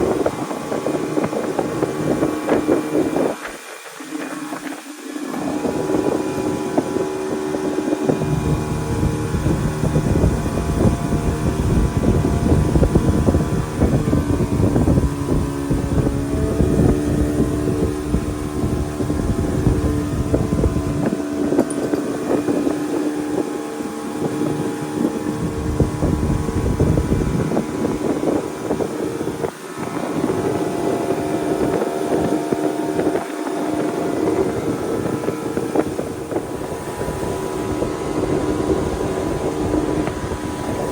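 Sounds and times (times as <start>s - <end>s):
motorboat engine droning: 0.0s - 40.9s
wind buffeting microphone: 0.0s - 40.9s.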